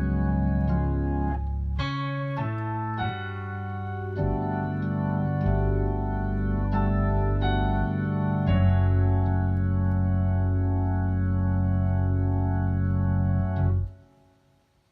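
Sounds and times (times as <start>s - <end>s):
organ playing gospel chords: 0.0s - 14.2s.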